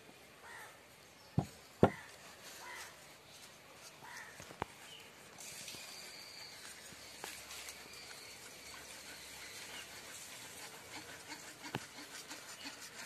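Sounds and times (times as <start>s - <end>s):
birds: 0.4s - 13.0s.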